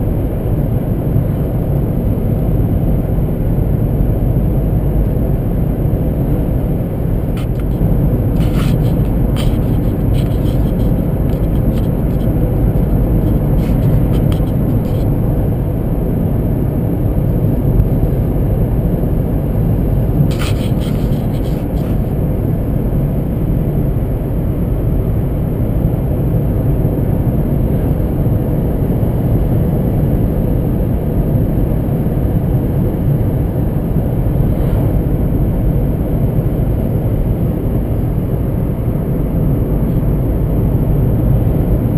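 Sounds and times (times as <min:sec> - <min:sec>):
engine hum: 0:00.0 - 0:41.9.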